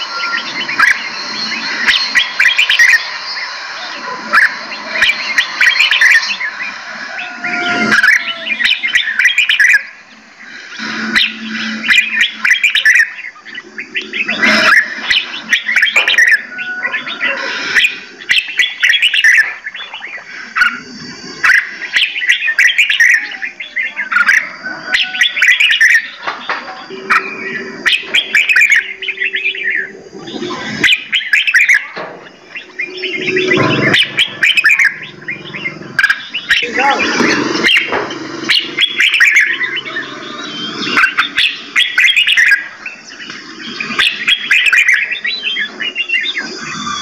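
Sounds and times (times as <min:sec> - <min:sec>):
songbirds singing and chirping: 0:00.0 - 0:47.0.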